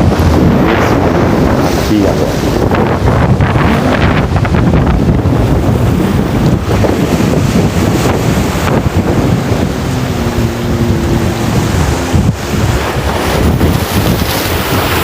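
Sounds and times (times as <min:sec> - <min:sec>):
ocean waves breaking on rocks: 0:00.0 - 0:15.0
wind buffeting microphone: 0:00.0 - 0:15.0.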